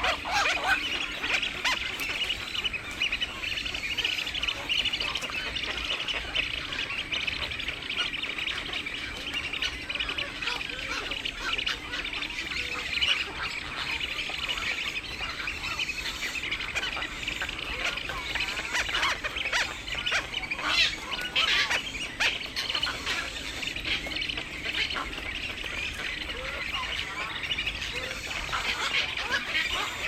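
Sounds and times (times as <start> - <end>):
bird squawks: 0.0 - 30.0
birds chattering: 0.0 - 30.0.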